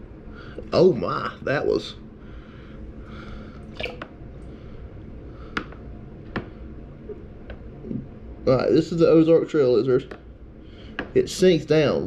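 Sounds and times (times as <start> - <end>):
faint low room hum: 0.0 - 12.0.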